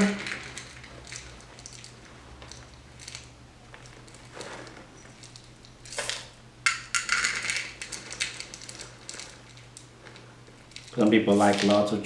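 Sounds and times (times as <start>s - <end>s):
chocolate chips being poured: 0.0s - 12.0s.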